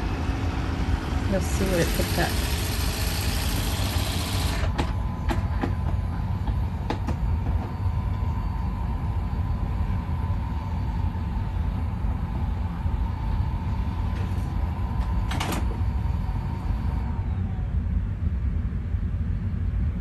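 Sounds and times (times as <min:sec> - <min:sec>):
robot vacuum motor running: 0:00.0 - 0:17.0.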